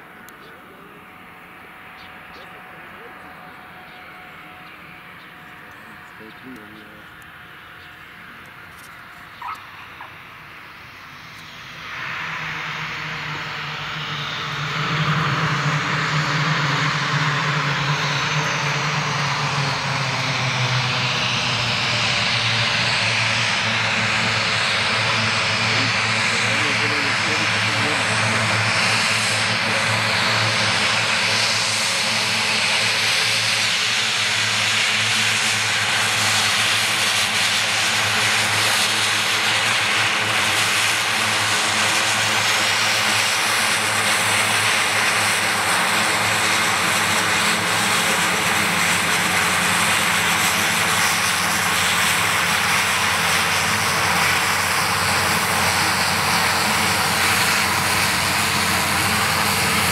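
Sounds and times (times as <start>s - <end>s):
high turbine whine: 0.0s - 59.9s
propeller drone: 0.0s - 59.9s.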